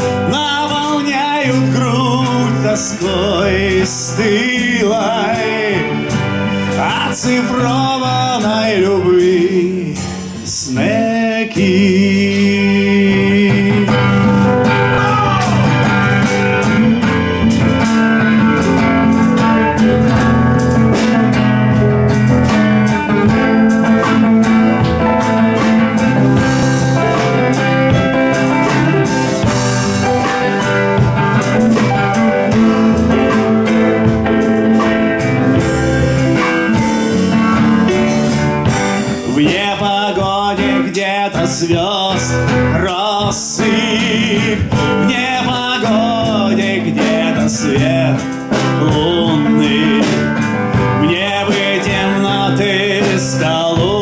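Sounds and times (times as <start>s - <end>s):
drum kit with cymbals: 0.0s - 54.0s
electric guitar: 0.0s - 54.0s
keyboard: 0.0s - 54.0s.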